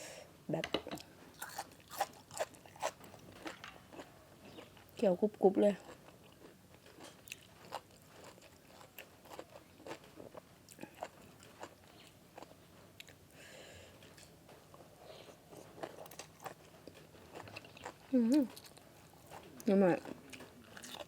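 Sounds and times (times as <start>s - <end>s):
person chewing crunchy food: 1.3s - 4.9s, 5.8s - 13.2s, 14.0s - 21.0s.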